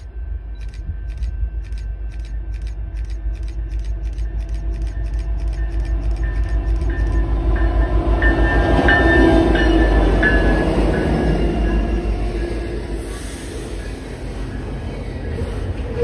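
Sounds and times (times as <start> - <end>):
train wheel noise and whine: 0.0 - 16.0.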